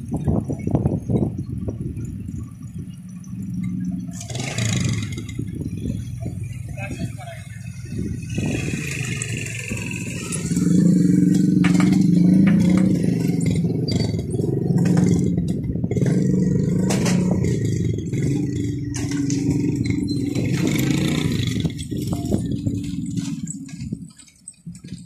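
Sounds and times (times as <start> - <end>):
train coaches rolling on track: 0.0 - 25.0.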